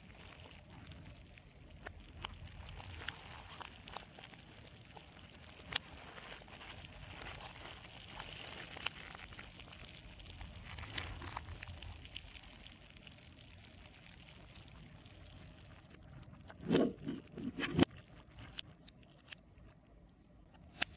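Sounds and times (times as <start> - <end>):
water beads pattering and sliding: 0.0 - 17.9.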